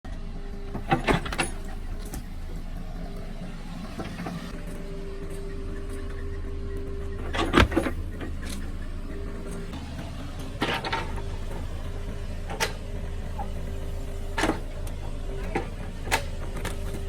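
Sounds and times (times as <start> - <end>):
excavator engine running: 0.1 - 17.0
steady whine: 0.2 - 17.0.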